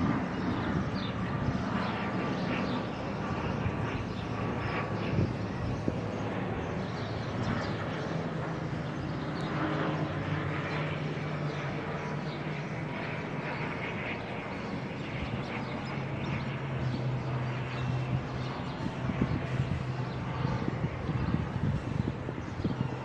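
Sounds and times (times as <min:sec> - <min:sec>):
propeller plane flying overhead: 0:00.0 - 0:23.0.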